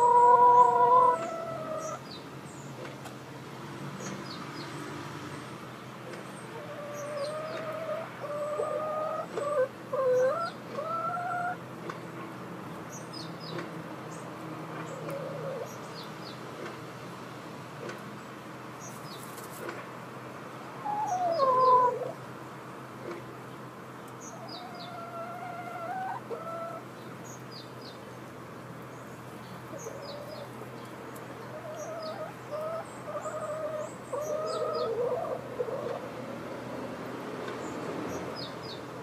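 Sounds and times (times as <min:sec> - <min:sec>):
chickens clucking and calling: 0:00.0 - 0:03.0, 0:06.0 - 0:16.8, 0:20.7 - 0:39.0.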